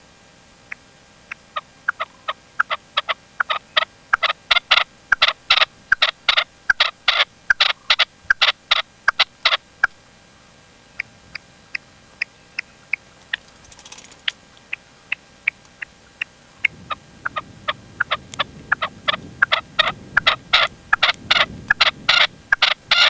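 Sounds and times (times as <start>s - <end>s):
partridge calling: 0.7s - 10.0s, 10.9s - 23.0s.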